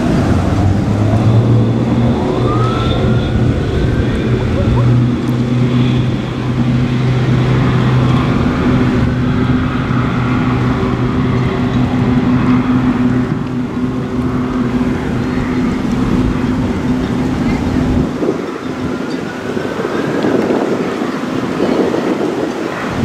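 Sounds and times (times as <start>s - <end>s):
outboard motors running: 0.0s - 23.0s
rushing boat wash and spray: 0.0s - 23.0s.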